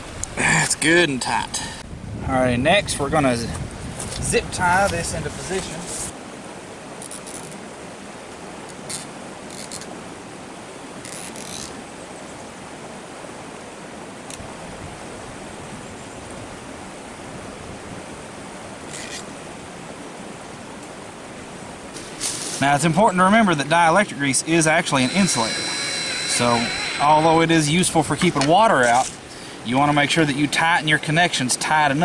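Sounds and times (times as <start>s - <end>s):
steady background hiss: 0.0s - 1.8s, 4.1s - 32.0s.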